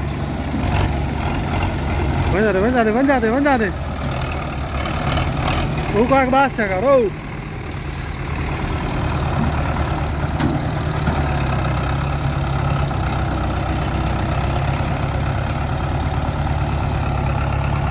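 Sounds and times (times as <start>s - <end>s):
tractor diesel engine idling: 0.0s - 17.9s.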